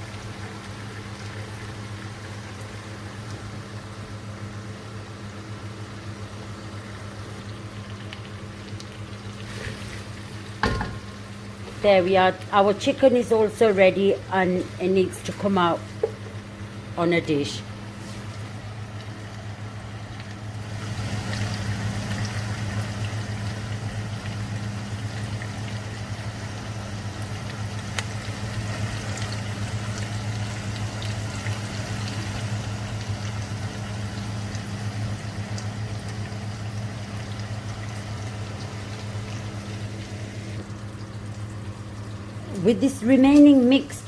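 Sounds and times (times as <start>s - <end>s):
chicken sizzling in oil: 0.0s - 43.9s
steady low hum: 0.0s - 44.0s.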